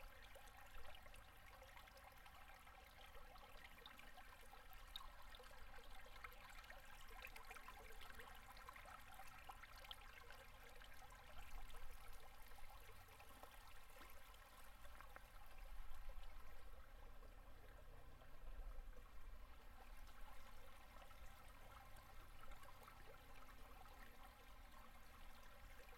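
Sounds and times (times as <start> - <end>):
river water trickling and gurgling: 0.0 - 25.9.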